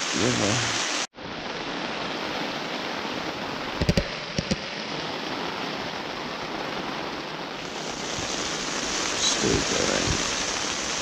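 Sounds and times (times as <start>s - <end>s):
heavy rain on a tent: 0.0s - 11.0s.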